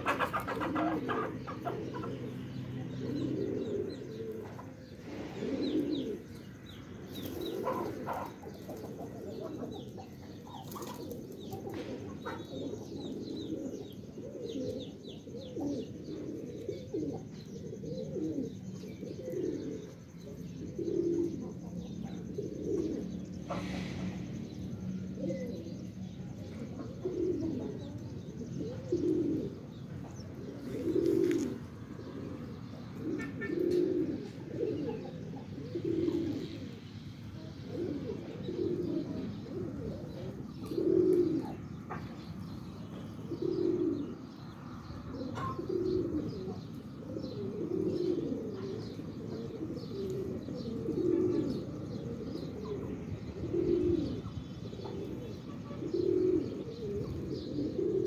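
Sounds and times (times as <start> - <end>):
pigeons cooing: 0.0 - 58.0
small birds chirping: 0.0 - 58.0.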